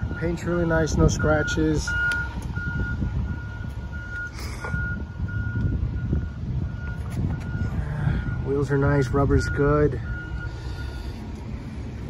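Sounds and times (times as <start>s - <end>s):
reversing alarm beeping: 0.0s - 11.3s.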